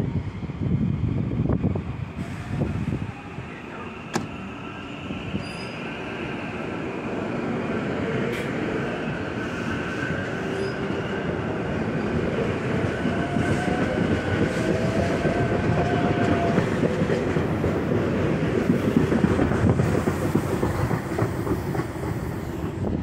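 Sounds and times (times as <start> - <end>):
train wheels rumbling: 0.2 - 23.0.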